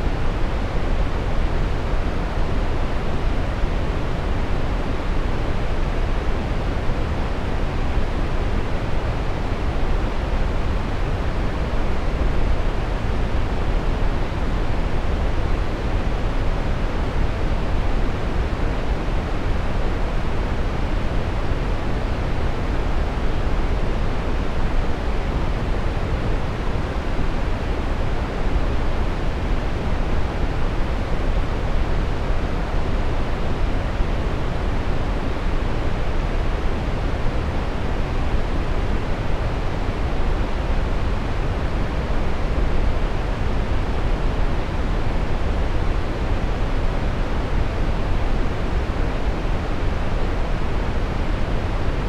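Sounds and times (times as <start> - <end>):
brown noise hiss: 0.0 - 52.0.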